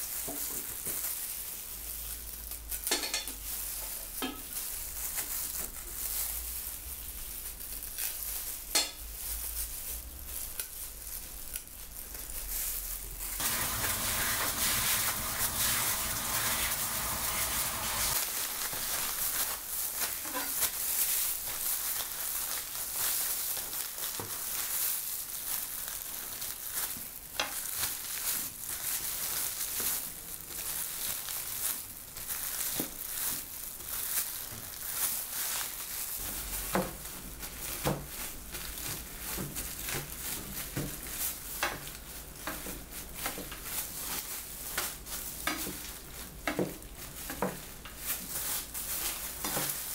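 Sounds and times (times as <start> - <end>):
plastic bag crinkling: 0.0 - 49.9.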